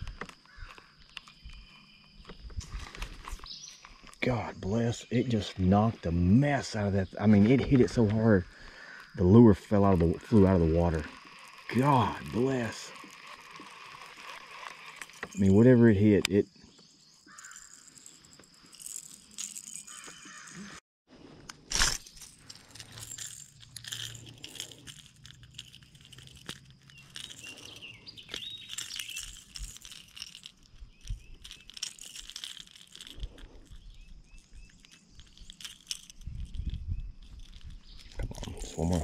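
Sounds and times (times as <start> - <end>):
birds chirping faintly: 0.0 - 20.8, 22.0 - 39.0
fishing lure hooks rattling: 6.6 - 20.8, 21.7 - 39.0.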